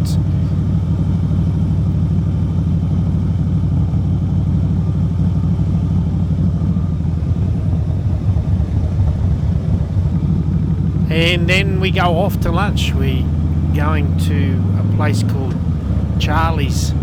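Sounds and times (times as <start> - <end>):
motorcycle engine and road rumble: 0.0 - 17.0.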